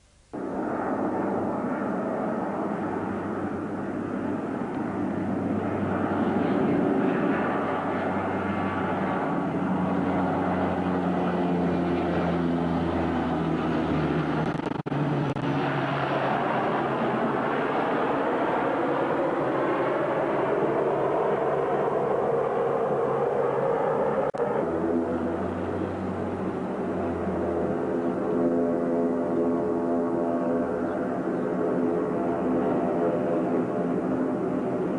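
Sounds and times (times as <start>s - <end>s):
engine drone: 0.0s - 34.9s.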